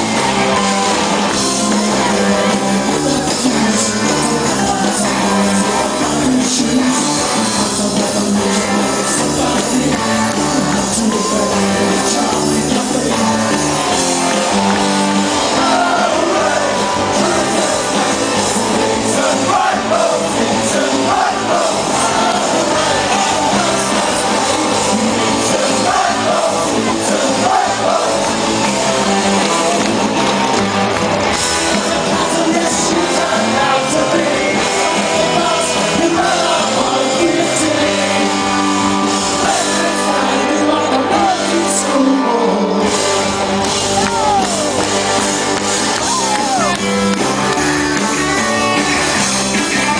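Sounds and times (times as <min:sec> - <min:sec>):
lead vocal singing: 0:00.0 - 0:30.6, 0:31.2 - 0:45.2
rock band playing live: 0:00.0 - 0:49.9.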